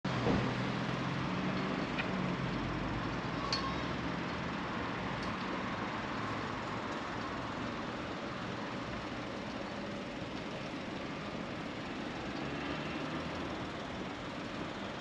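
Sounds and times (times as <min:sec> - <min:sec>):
street noise: 0:00.0 - 0:15.0
vehicle engine humming: 0:00.1 - 0:15.0.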